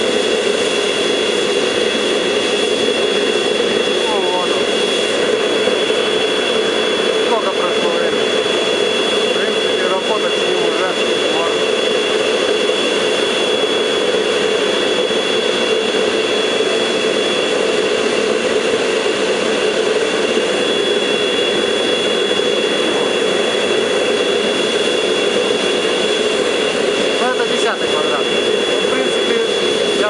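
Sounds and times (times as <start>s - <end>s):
gas forge rushing: 0.0s - 30.0s
thin high whine: 0.0s - 30.0s.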